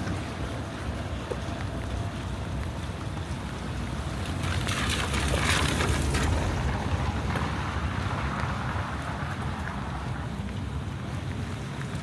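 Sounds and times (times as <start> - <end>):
rain and wind on microphone: 0.0 - 12.0.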